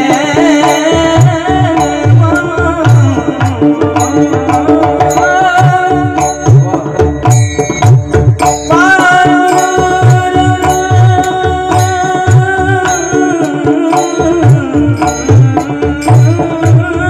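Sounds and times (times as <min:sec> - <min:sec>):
person singing: 0:00.0 - 0:07.6, 0:08.4 - 0:17.0
held instrumental tones: 0:00.0 - 0:17.0.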